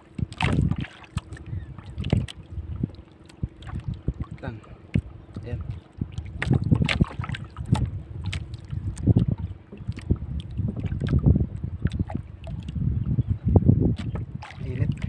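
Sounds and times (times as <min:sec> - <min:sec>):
water lapping against boat hull: 0:00.0 - 0:15.0
wind buffeting microphone: 0:00.0 - 0:15.0.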